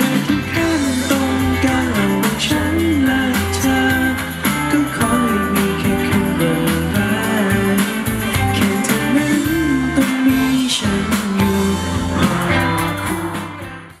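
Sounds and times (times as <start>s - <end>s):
guitar-led band: 0.0s - 14.0s
man singing into microphone: 0.0s - 14.0s.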